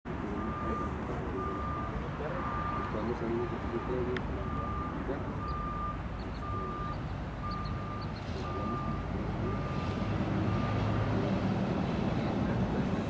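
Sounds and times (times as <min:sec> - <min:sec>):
truck reversing alarm beeping: 0:00.1 - 0:11.2
truck engine rumble: 0:00.1 - 0:13.0.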